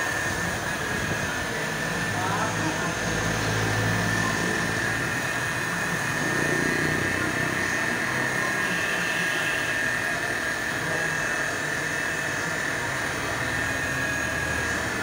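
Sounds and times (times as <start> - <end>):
car polisher motor whine: 0.0 - 15.0.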